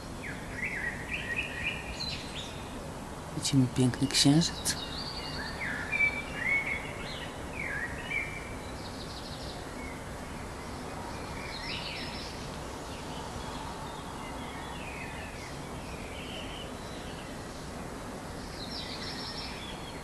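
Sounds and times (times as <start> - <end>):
songbirds singing: 0.0 - 20.0
steady background noise: 0.0 - 20.0.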